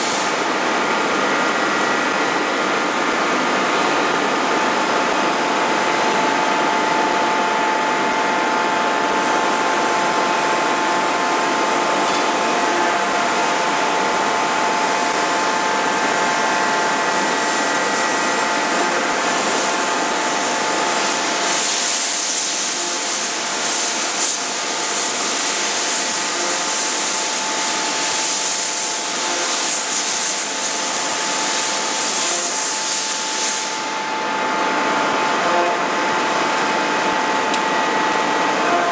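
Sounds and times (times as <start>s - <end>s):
industrial machinery drone: 0.0s - 38.9s.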